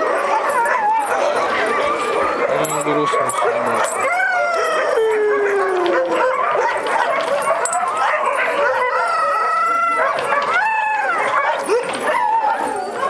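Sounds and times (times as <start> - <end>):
dog howling and whining: 0.0 - 13.0.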